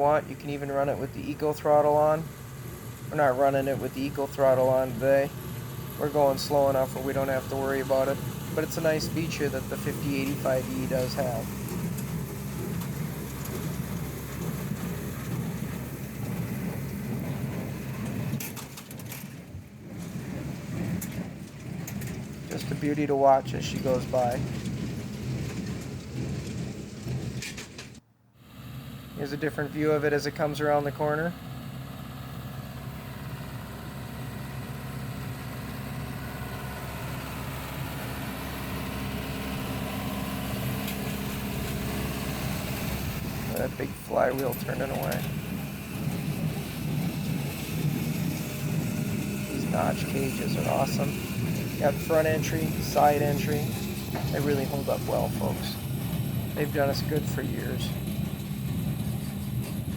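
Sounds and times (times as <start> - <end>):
tractor and baler running: 0.0 - 59.9.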